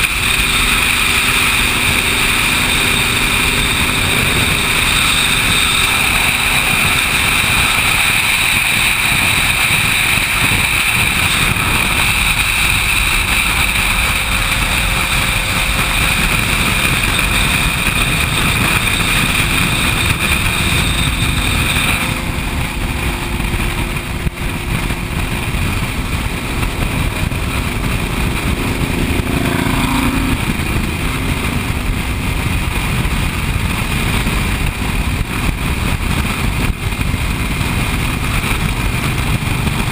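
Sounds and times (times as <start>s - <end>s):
thin high whine: 0.0s - 39.3s
motorcycle engines droning: 0.0s - 39.9s
wind rush: 0.0s - 39.9s.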